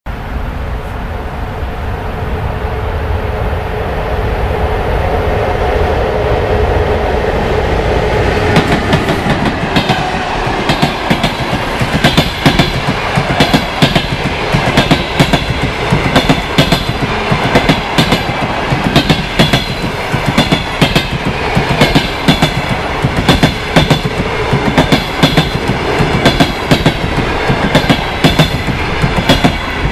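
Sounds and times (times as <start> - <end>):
electric locomotive rumble and hum: 0.1 - 29.9.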